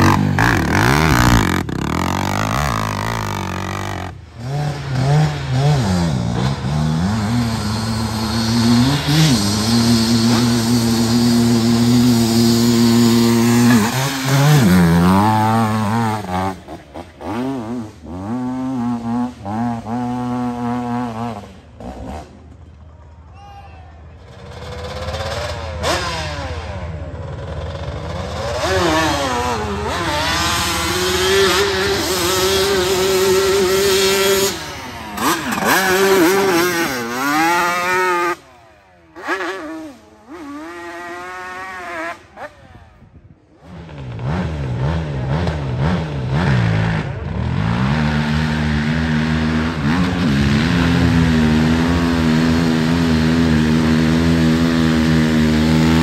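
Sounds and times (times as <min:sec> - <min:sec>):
atv engines revving: 0:00.0 - 0:23.3, 0:24.0 - 0:56.0.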